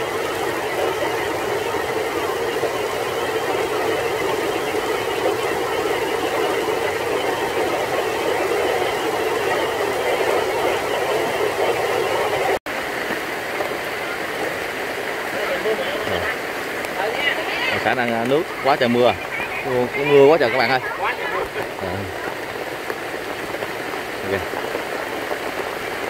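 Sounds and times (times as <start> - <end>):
heavy rain drumming on tarp: 0.0 - 26.0.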